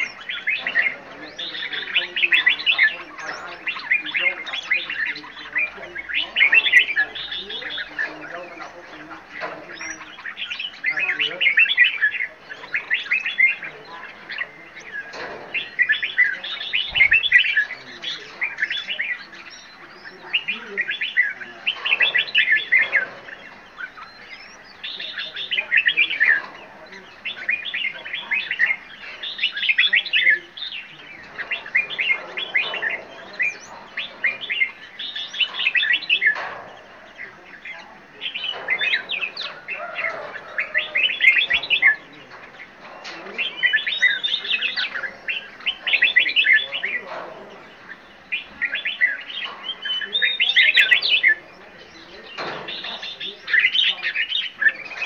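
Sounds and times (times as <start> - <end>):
birds chirping in high trills: 0.0 - 55.0.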